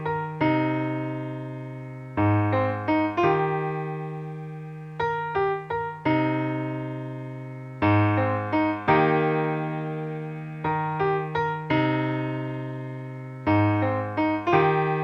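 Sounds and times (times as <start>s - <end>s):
slow solo piano: 0.0s - 15.0s.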